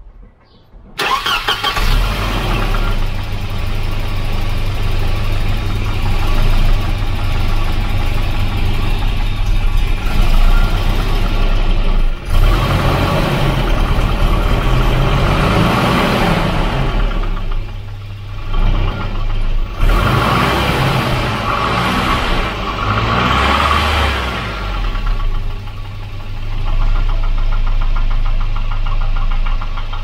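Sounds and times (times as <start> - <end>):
car engine starting and idling: 1.0 - 30.0
engine knocking: 1.0 - 30.0.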